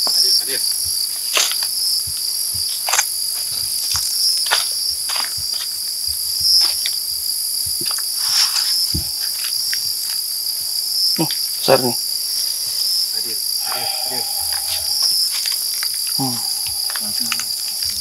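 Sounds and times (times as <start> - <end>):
night insects chorus: 0.0 - 18.0.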